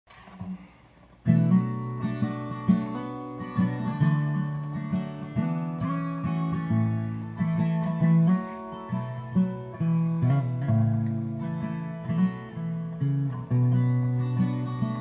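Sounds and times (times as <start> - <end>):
acoustic guitar playing: 0.1 - 15.0.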